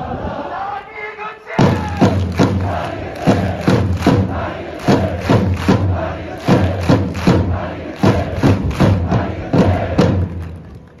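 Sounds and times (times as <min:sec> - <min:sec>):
crowd chanting in unison: 0:00.0 - 0:10.6
loud drum beats: 0:01.5 - 0:10.6.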